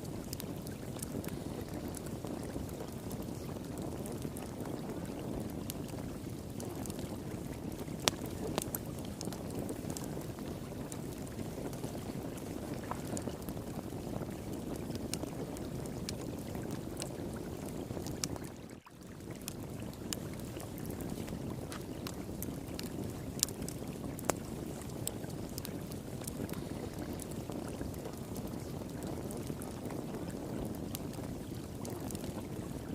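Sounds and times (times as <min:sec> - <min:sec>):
flowing water: 0:00.0 - 0:32.9
wood fire crackling and popping: 0:00.0 - 0:32.9.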